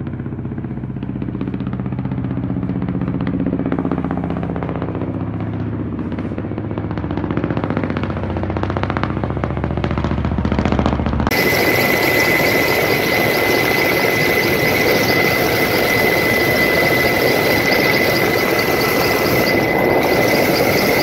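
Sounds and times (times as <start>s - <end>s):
helicopter engine: 0.0s - 21.0s
helicopter rotor chopping: 0.0s - 21.0s.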